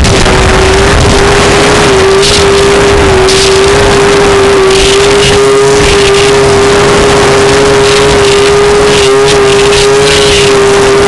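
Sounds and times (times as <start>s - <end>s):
snowmobile engine at high revs: 0.0s - 11.0s.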